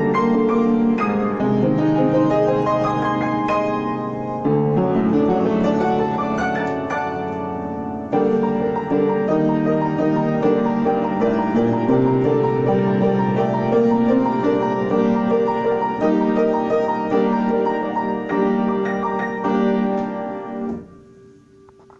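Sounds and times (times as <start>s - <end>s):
solo piano music: 0.0s - 21.9s.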